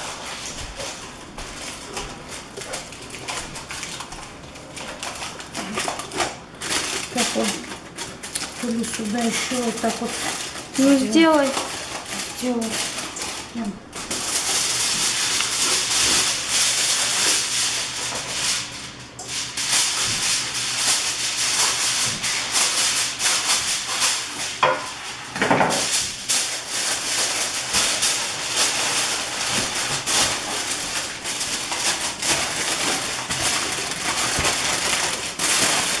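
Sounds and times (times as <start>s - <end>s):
foil crinkling and rustling: 0.0s - 36.0s
foil tearing: 0.0s - 36.0s.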